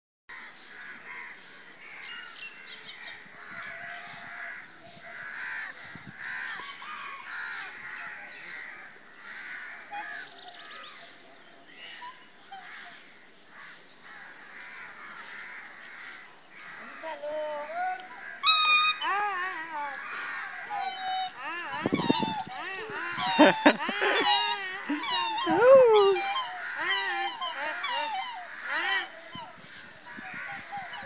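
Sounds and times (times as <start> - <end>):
birds chirping chorus: 0.4 - 31.0.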